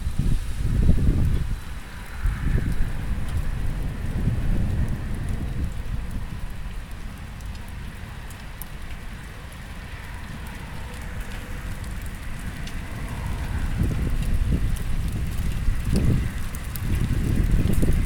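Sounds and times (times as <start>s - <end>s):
low rumble of thunder: 0.0s - 18.0s
rain falling: 0.0s - 18.0s.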